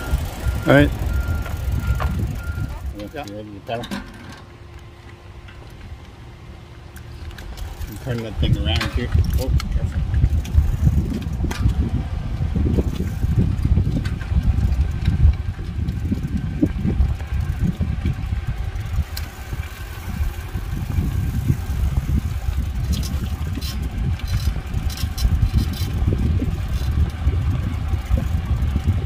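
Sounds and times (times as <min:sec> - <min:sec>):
wind buffeting microphone: 0:00.0 - 0:03.3, 0:07.1 - 0:29.0
bike rolling on paved street: 0:00.0 - 0:29.0.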